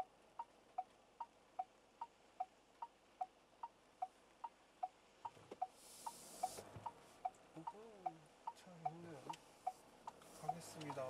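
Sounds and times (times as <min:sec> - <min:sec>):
turn signal ticking: 0:00.0 - 0:11.0.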